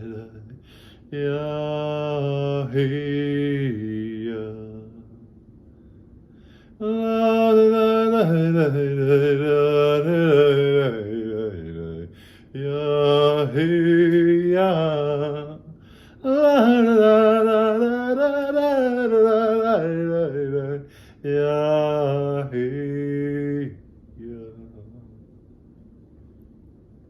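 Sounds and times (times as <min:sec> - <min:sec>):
man singing wordless chant: 0:00.0 - 0:05.0, 0:06.8 - 0:25.2.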